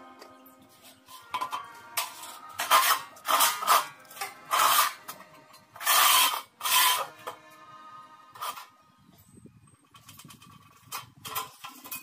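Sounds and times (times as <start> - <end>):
sheet metal scraping on concrete: 0.2 - 8.8, 9.8 - 12.0.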